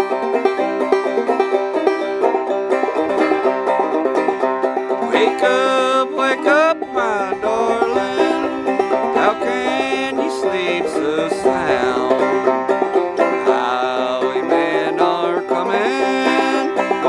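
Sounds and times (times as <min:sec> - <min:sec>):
bluegrass music with banjo picking: 0:00.0 - 0:17.0.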